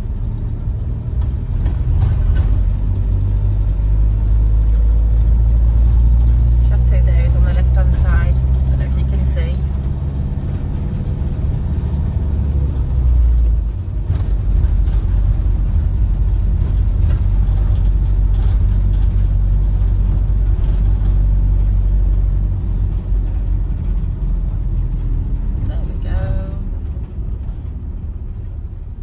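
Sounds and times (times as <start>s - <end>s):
van engine and road noise: 0.0s - 29.0s.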